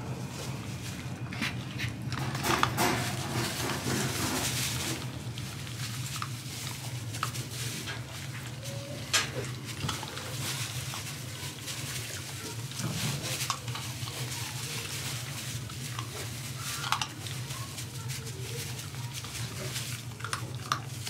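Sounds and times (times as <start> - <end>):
puppies crunching dry kibble: 0.0 - 21.0.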